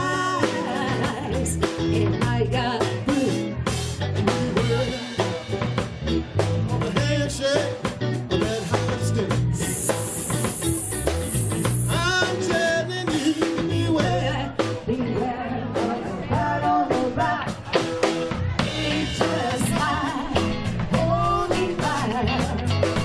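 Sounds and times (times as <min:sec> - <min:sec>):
person singing: 0:00.0 - 0:03.5, 0:06.8 - 0:23.0
drum kit: 0:00.0 - 0:23.0
guitar: 0:00.0 - 0:23.0.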